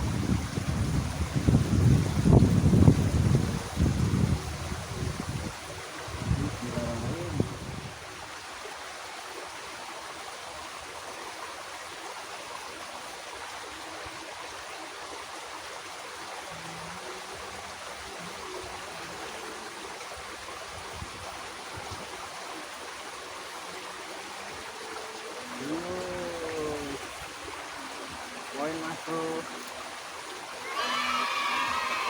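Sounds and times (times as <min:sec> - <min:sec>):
water rushing in a ditch: 0:00.0 - 0:32.0.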